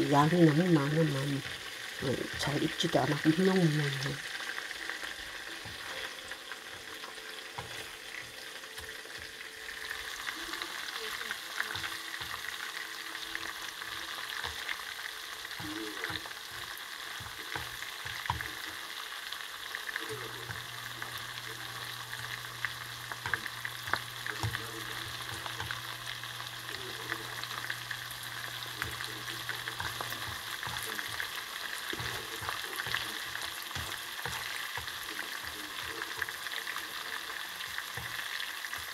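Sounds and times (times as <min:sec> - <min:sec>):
food deep-frying in oil: 0:00.0 - 0:38.9.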